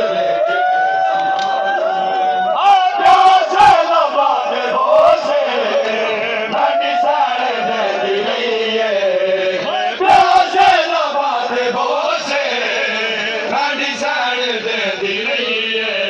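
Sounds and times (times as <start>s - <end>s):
men chanting over loudspeaker: 2.0s - 16.0s.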